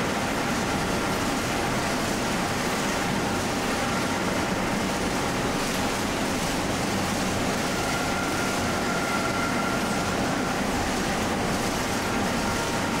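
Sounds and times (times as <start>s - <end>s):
machinery rumble and hiss: 0.0s - 13.0s.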